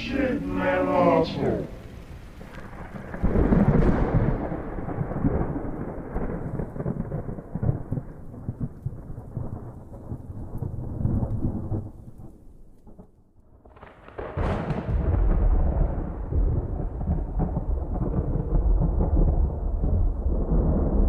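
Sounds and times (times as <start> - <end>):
low muffled thunder rolling: 0.0 - 13.0, 13.7 - 21.0
rain: 0.0 - 21.0.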